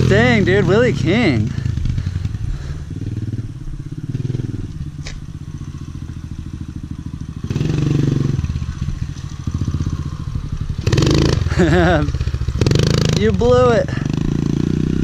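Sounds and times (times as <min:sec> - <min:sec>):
small motorbike engine revving: 0:00.0 - 0:15.0.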